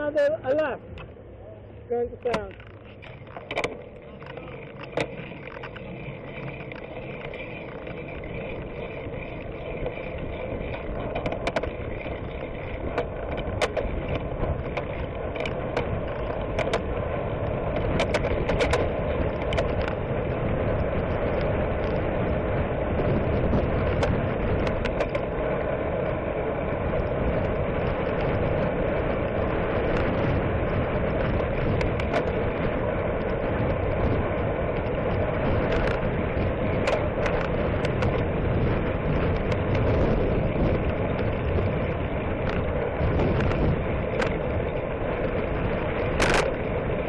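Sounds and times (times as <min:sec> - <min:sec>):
wind and road noise: 0:00.0 - 0:47.0
bicycle clicks and rattles: 0:02.1 - 0:47.0.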